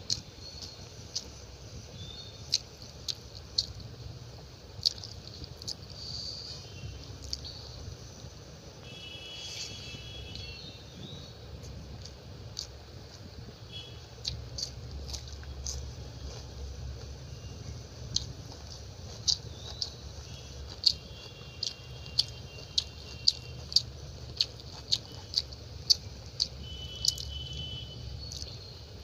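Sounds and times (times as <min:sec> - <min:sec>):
person chewing food: 0:00.0 - 0:07.8, 0:09.2 - 0:28.7.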